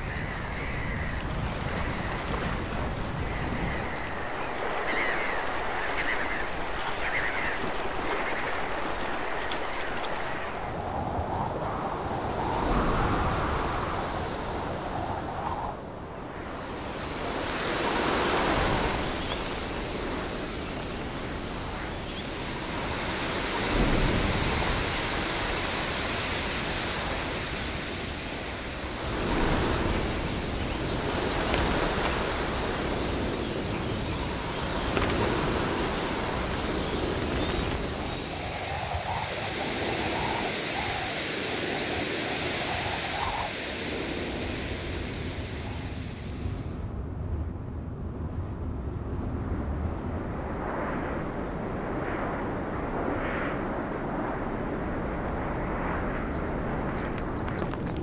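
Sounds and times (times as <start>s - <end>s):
wind-like whooshing: 0.0s - 58.0s.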